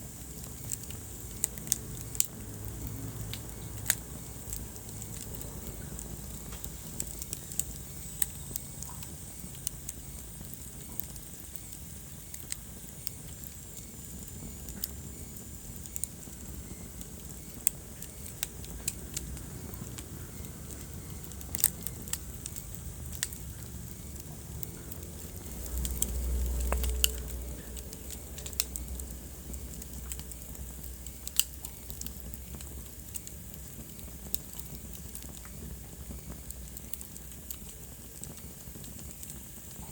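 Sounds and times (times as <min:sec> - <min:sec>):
flames low rumble: 0:00.0 - 0:39.9
low rush of fire: 0:00.0 - 0:39.9
wood fire popping and snapping: 0:00.0 - 0:39.9.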